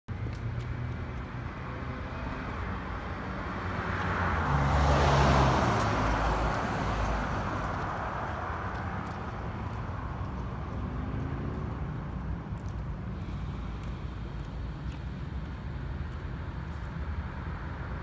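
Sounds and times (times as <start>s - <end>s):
road traffic noise: 0.1s - 18.0s
vehicle passing: 0.2s - 18.0s.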